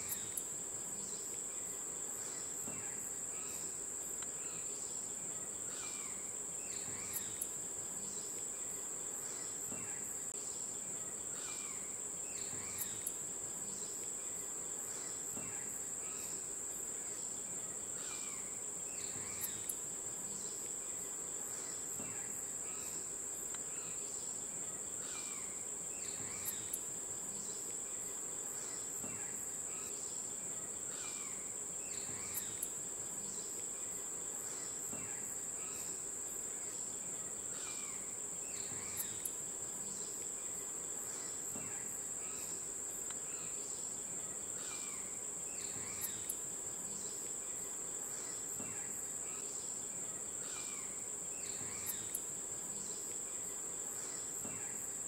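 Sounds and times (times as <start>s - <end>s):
insect drone: 0.0s - 55.0s.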